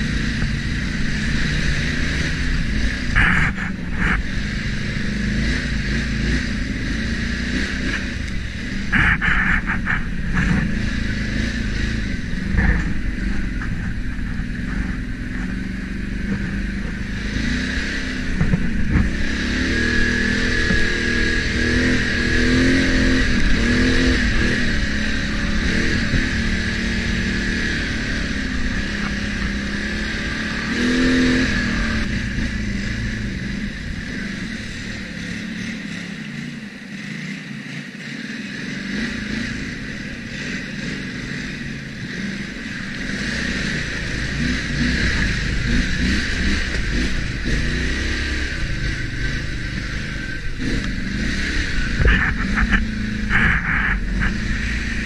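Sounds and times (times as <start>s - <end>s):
atv engine revving: 0.0s - 55.0s
steady high whine: 0.0s - 55.0s.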